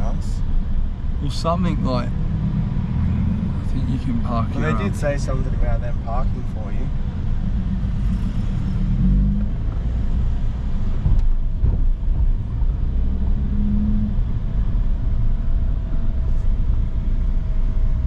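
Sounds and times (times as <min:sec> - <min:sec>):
car engine and road noise rumble: 0:00.0 - 0:18.0.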